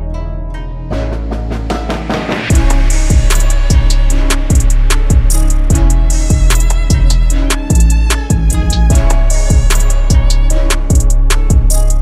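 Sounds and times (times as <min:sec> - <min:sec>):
plucked string notes: 0:00.0 - 0:12.0
steady bass: 0:00.0 - 0:12.0.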